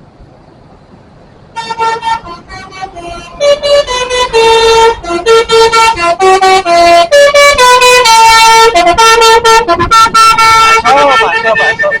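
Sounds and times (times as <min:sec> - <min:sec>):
bus horn playing a tune: 0:01.5 - 0:12.0.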